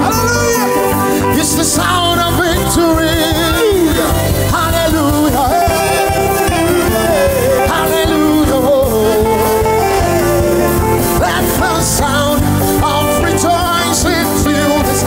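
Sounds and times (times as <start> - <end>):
band with steady beat: 0.0 - 15.0
voices singing: 0.0 - 15.0.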